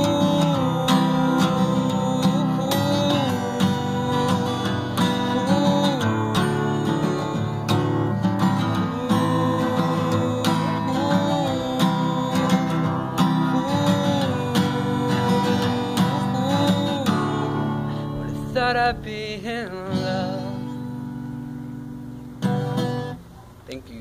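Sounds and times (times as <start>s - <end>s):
man singing: 0.0s - 21.1s
acoustic guitar strumming: 0.0s - 24.0s.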